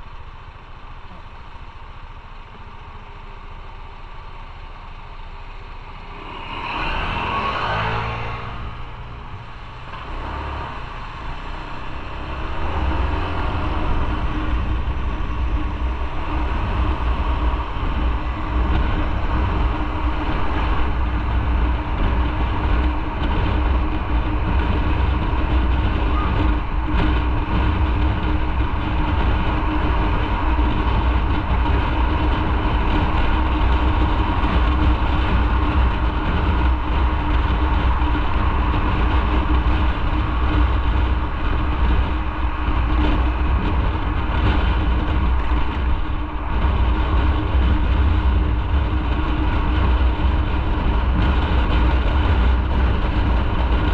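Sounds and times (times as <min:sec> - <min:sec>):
motorcycle engine running: 0:00.0 - 0:53.9
road rumble: 0:00.0 - 0:53.9
wind rush: 0:06.0 - 0:53.9.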